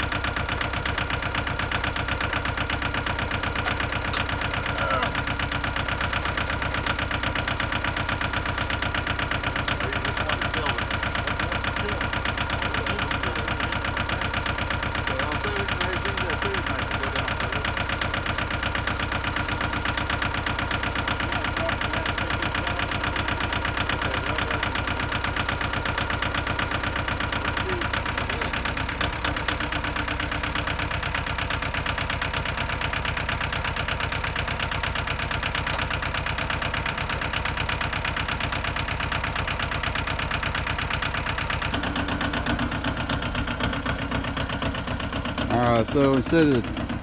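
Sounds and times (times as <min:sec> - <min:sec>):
tractor diesel engine idling: 0:00.0 - 0:47.0.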